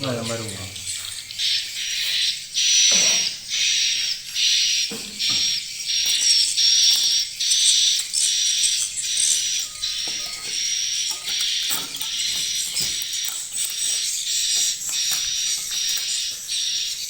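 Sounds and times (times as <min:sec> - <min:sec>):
swiftlets chirping: 0:00.0 - 0:17.0.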